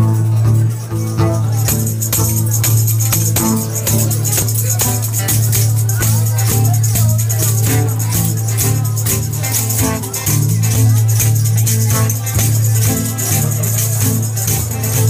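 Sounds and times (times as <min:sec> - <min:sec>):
frame drum with jingles: 0:00.0 - 0:15.0
strummed acoustic guitar: 0:00.0 - 0:15.0.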